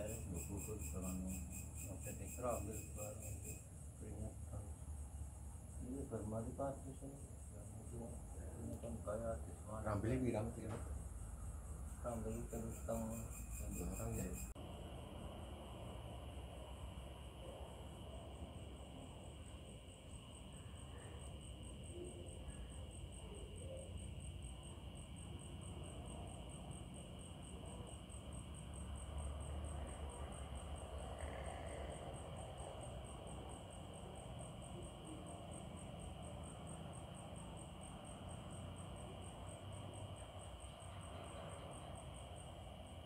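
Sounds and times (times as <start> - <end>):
crickets chirping: 0.0 - 43.0
low insect drone: 0.0 - 43.0.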